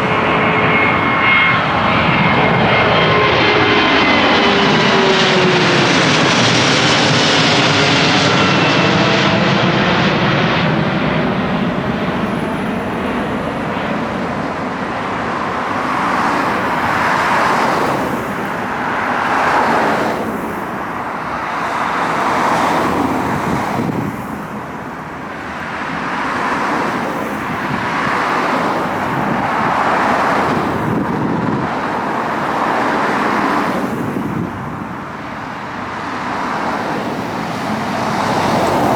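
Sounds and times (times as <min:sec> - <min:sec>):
cars passing by: 0:00.0 - 0:38.9
jet airliner taking off overhead: 0:00.0 - 0:38.9.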